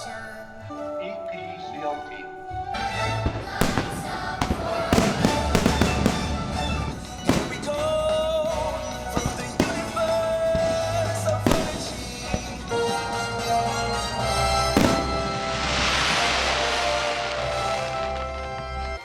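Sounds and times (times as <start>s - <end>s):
loud show music: 2.4s - 18.8s
firework bangs: 2.5s - 19.0s.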